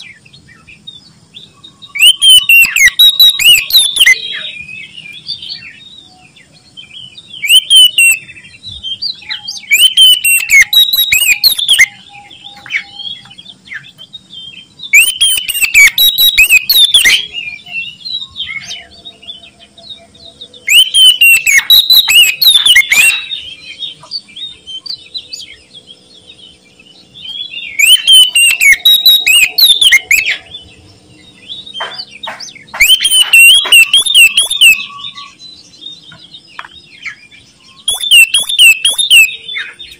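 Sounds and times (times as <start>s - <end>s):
bird singing whistled phrases: 1.4s - 26.4s, 27.0s - 36.1s, 37.0s - 39.9s.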